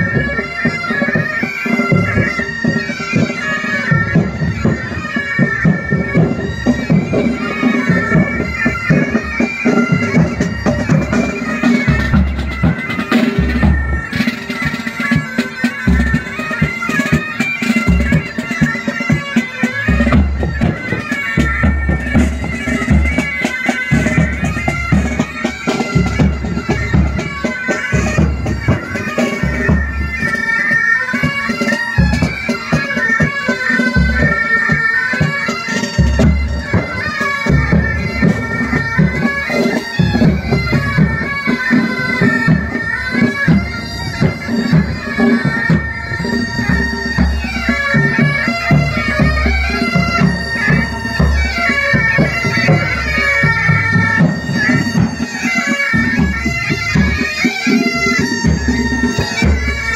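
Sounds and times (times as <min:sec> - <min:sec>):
bagpipes playing a march: 0:00.0 - 0:59.9
drums beating time: 0:00.0 - 0:59.9.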